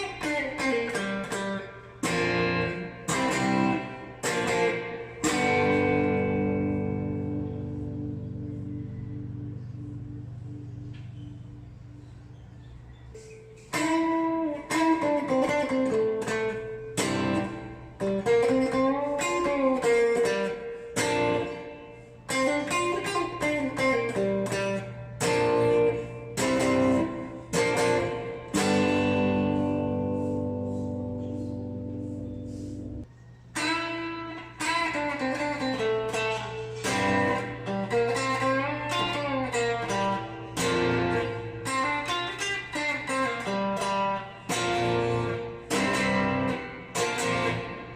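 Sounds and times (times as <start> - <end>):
guitar chord ringing: 0.0 - 33.0, 33.6 - 47.9
electric guitar melodic phrases: 0.0 - 47.9.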